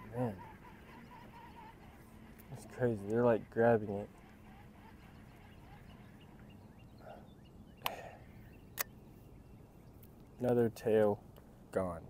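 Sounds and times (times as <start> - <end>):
faint bird chirps: 0.0 - 10.5.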